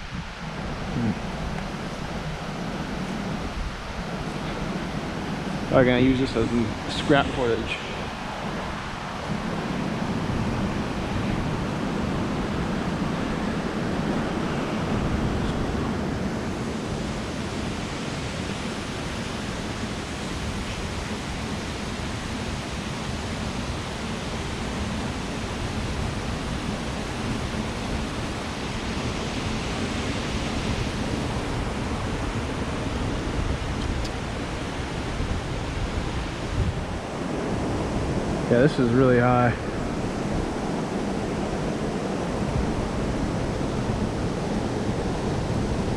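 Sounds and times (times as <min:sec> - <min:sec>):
river rushing in flood: 0:00.0 - 0:45.9.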